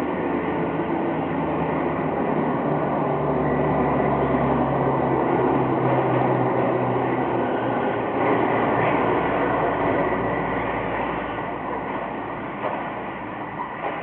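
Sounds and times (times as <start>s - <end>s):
truck engine running under load: 0.0s - 14.0s.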